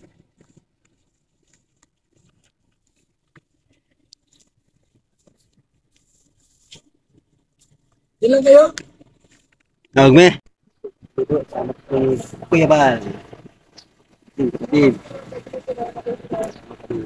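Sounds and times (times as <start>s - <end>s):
faint clicks and rustles: 0.0s - 10.0s, 10.6s - 17.0s.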